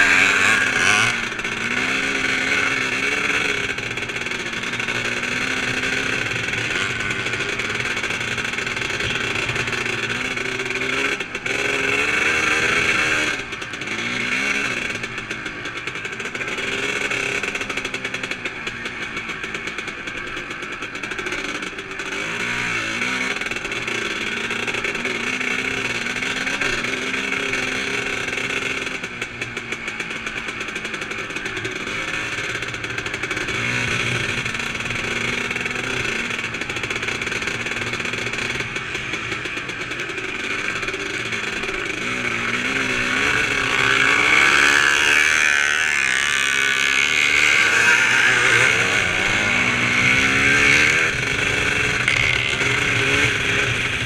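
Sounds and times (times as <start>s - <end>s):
motorcycle engine racing: 0.0s - 54.0s.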